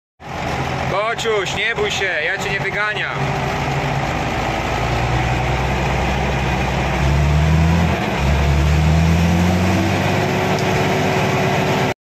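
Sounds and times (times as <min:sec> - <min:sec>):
tractor diesel engine under load: 0:00.2 - 0:12.0.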